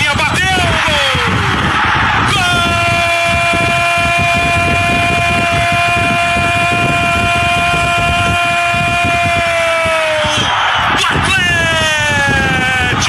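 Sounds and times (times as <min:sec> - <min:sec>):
stadium crowd noise: 0:00.0 - 0:13.0
commentator's long drawn-out shout: 0:02.2 - 0:13.0.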